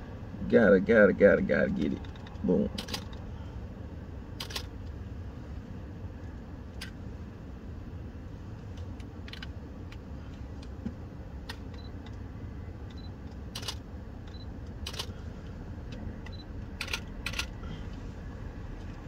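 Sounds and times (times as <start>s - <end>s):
low rumble of vehicles: 0.0s - 19.0s.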